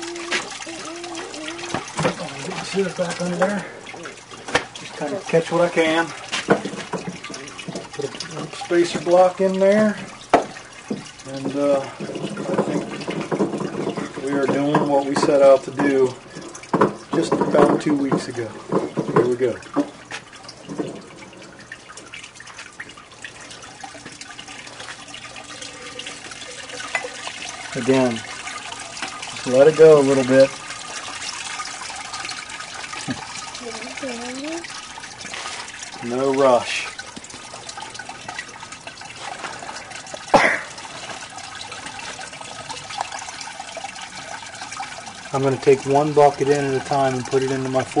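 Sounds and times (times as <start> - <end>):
juice dripping into bucket: 0.0 - 48.0.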